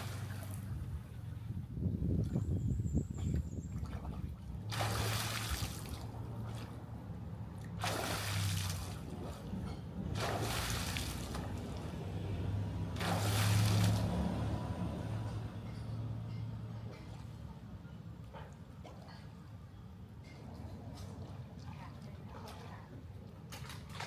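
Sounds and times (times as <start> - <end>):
pool water sloshing and splashing: 0.0 - 1.3, 2.1 - 24.0.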